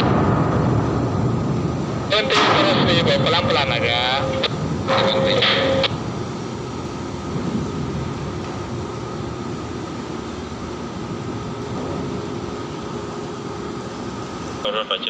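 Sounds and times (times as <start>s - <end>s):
diesel machinery droning: 0.0s - 15.0s.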